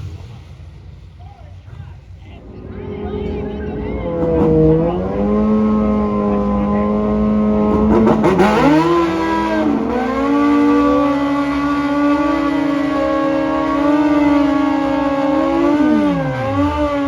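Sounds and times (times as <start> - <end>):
car engine accelerating: 2.3 - 17.0.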